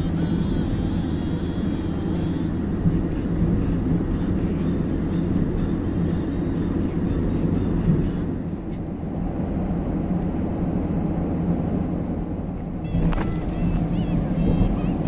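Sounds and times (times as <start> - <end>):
tyre and engine rumble inside car: 0.0 - 15.0.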